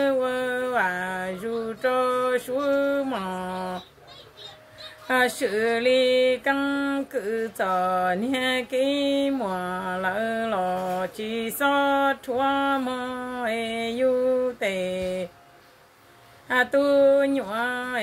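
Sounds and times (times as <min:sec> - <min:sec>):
woman singing unaccompanied: 0:00.0 - 0:15.4, 0:16.4 - 0:18.0.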